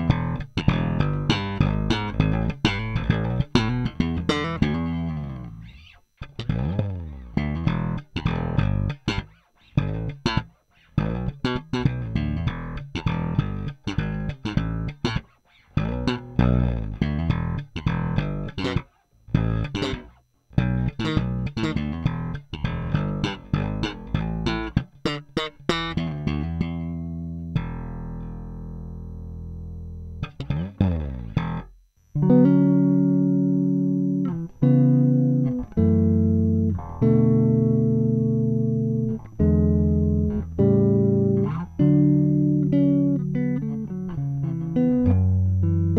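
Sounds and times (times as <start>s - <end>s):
electric bass playing: 0.0s - 45.9s.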